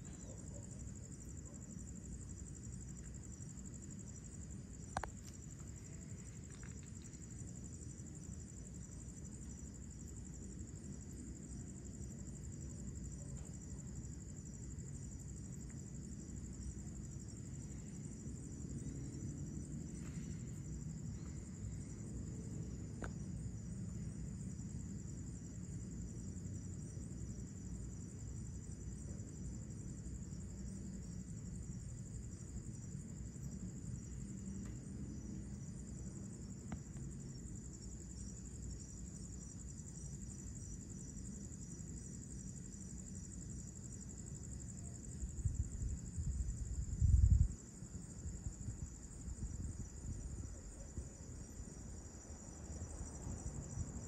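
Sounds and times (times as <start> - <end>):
night insects trilling: 0.0 - 54.0.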